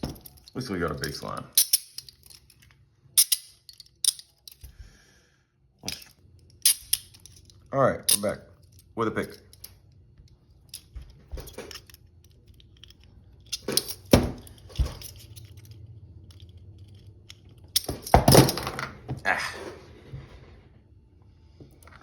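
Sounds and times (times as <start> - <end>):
handcuffs clicking and clanking: 0.0 - 4.9, 5.8 - 18.6.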